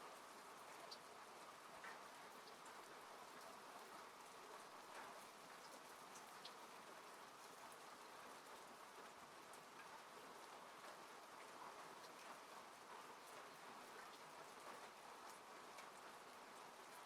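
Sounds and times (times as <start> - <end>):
rain falling on a car: 0.0 - 17.0.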